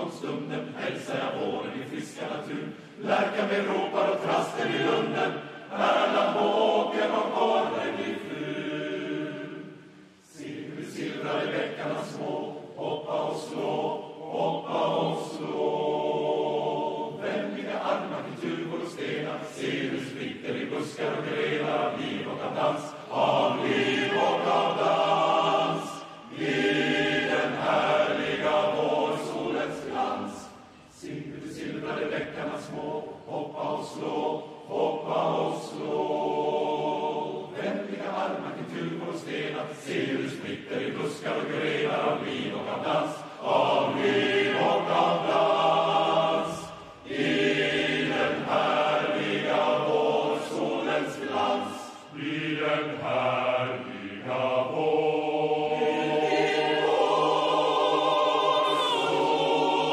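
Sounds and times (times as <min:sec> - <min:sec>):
male choir singing: 0:00.0 - 0:59.9.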